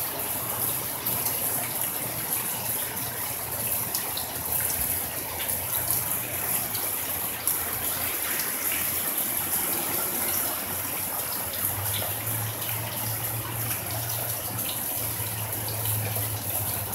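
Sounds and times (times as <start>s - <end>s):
drips and splashes: 0.0s - 16.9s
heavy rain pouring: 0.0s - 16.9s.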